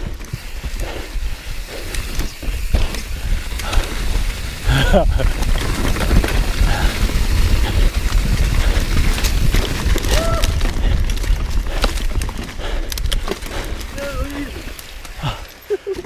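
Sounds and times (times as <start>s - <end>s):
tyres hissing through leaves: 0.0s - 10.7s, 13.5s - 16.0s
wind rumble on microphone: 0.0s - 14.8s
bike knocking and rattling: 0.0s - 16.0s.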